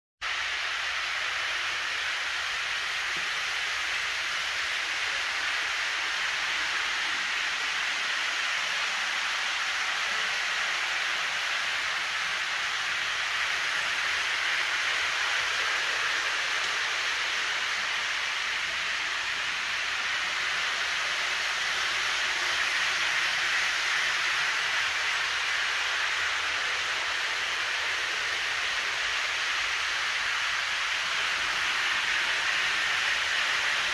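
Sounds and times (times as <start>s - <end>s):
model trains whirring on track: 0.2s - 33.9s.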